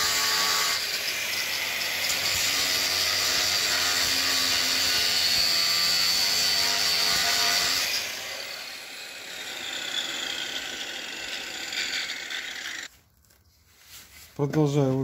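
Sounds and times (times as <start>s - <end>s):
angle grinder grinding steel: 0.0s - 12.9s.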